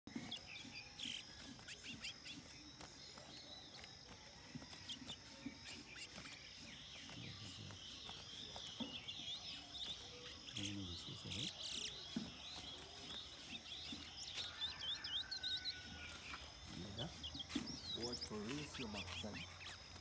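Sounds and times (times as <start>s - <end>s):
songbirds chirping: 0.1s - 20.0s.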